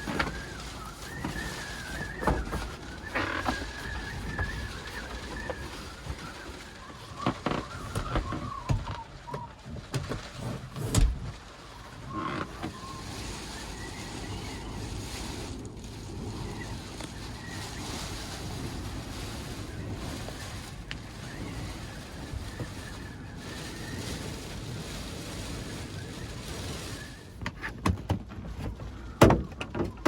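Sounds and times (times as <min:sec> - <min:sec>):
wind whistle: 0:00.0 - 0:27.7
wind and rain buffeting a van: 0:00.0 - 0:30.0.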